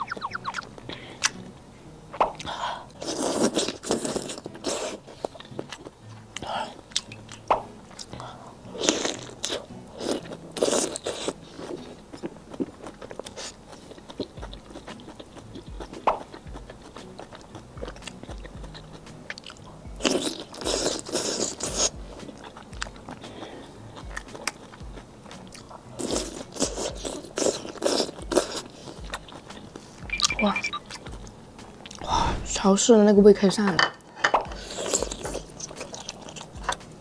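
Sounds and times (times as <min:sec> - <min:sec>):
person chewing food: 0:00.0 - 0:01.5, 0:02.1 - 0:32.5, 0:34.3 - 0:37.0.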